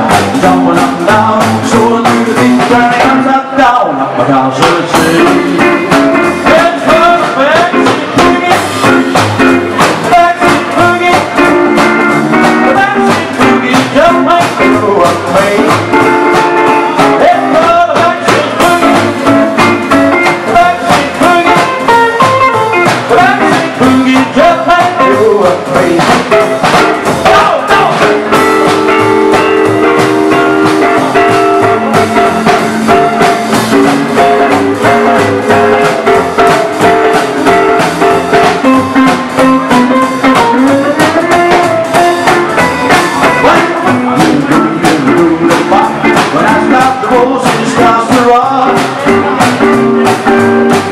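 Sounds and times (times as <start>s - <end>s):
live band playing rock and roll: 0.0s - 50.9s.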